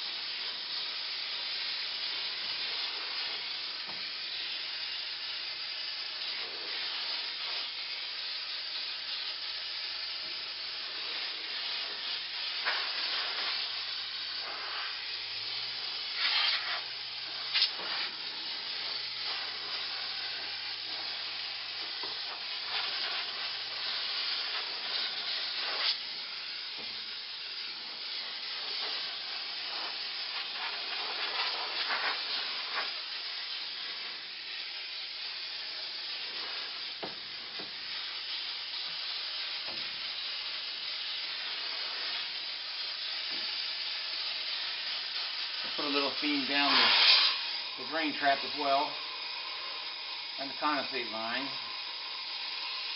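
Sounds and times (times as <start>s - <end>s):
steam cleaner hissing: 0.0s - 52.9s.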